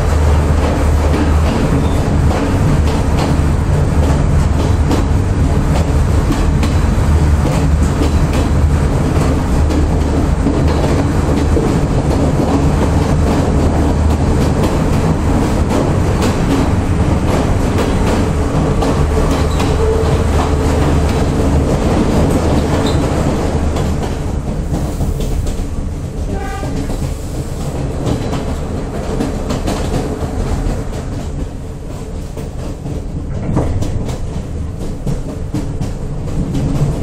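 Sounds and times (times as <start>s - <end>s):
rumble of moving rail car: 0.0s - 37.0s
short clacks of train wheels: 0.0s - 37.0s.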